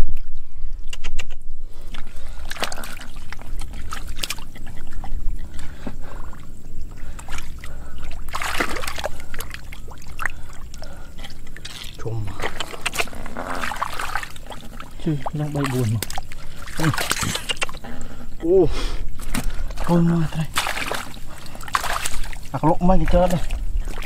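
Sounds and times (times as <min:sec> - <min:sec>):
hands splashing in muddy water: 0:01.8 - 0:18.0, 0:19.2 - 0:24.0
water dripping: 0:01.8 - 0:24.0.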